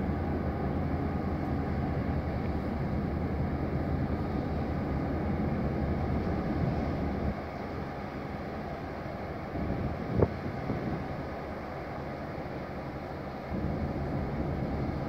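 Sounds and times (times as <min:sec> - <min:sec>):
ship engine low rumble: 0:00.0 - 0:15.0.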